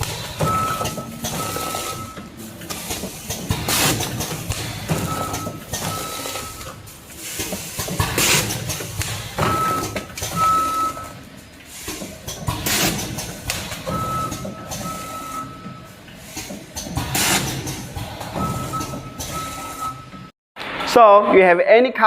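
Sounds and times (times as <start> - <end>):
packing machine bursts: 0.0 - 20.2.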